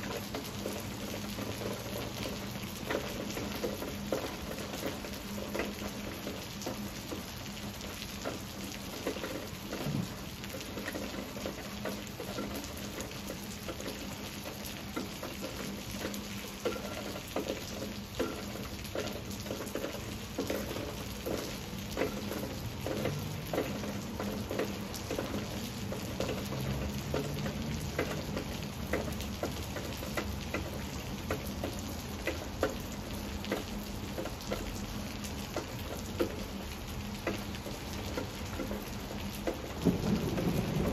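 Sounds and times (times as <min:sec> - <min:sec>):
raindrops tapping on leaves: 0:00.0 - 0:40.9
steady rain falling: 0:00.0 - 0:40.9.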